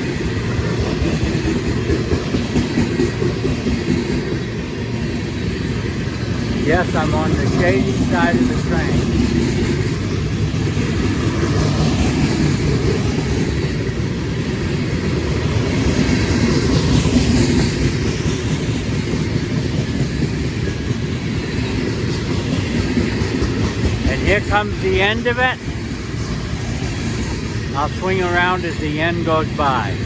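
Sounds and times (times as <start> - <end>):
freight train rumbling past: 0.0 - 30.0
wheels clattering on rails: 0.0 - 30.0.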